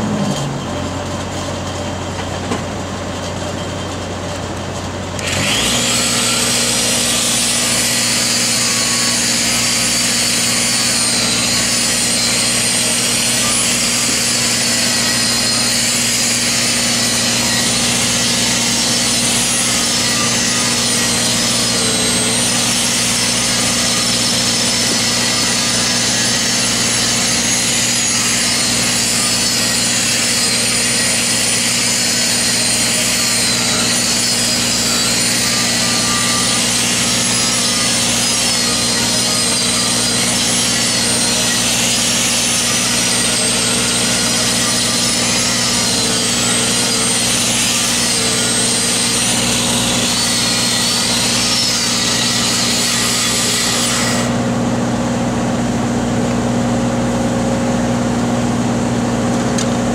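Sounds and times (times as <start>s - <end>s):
welding machine engine running: 0.7s - 59.9s.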